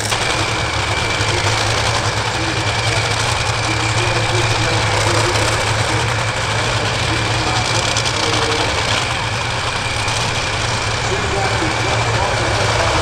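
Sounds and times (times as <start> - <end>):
dragster engines idling loudly: 0.0 - 13.0.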